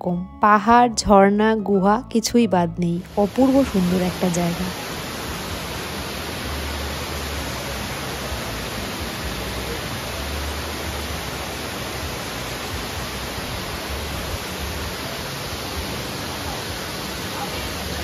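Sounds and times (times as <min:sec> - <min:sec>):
waterfall rushing: 0:03.1 - 0:18.0.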